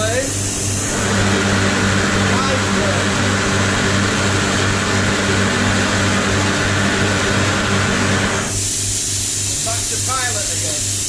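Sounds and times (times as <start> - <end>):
air compressor hum: 0.0 - 11.0
gas blow lamp roaring: 0.0 - 11.0.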